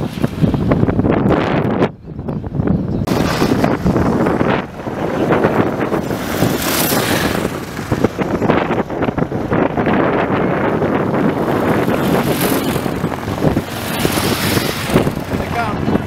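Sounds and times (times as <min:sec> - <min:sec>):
wind buffeting microphone: 0:00.0 - 0:16.0
car driving on cobblestones: 0:03.0 - 0:16.0
race motorcycles passing: 0:03.0 - 0:16.0.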